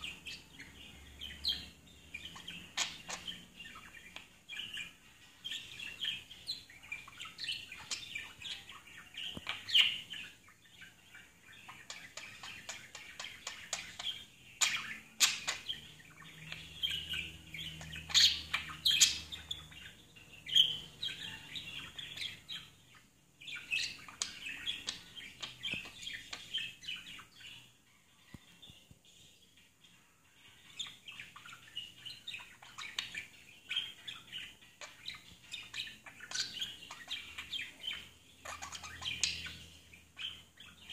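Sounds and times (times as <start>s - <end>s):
budgerigar chirping: 0.0s - 28.2s, 30.4s - 40.9s.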